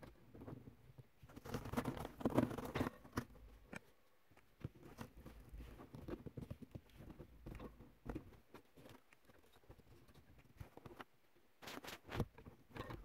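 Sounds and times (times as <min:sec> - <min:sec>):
faint clicks and rustling: 0:00.0 - 0:13.0.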